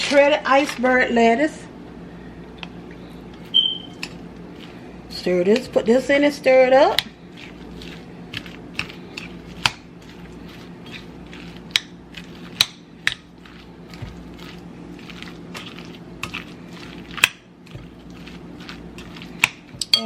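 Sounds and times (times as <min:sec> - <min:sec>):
steady low hum: 0:00.0 - 0:20.0
wet lettuce crunching and squishing: 0:03.0 - 0:06.1, 0:06.9 - 0:19.9.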